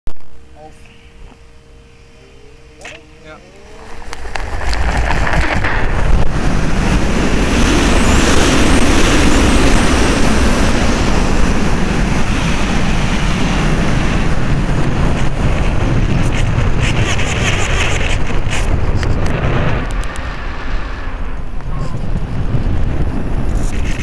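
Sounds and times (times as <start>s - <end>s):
wind rushing over microphone: 2.9s - 24.0s.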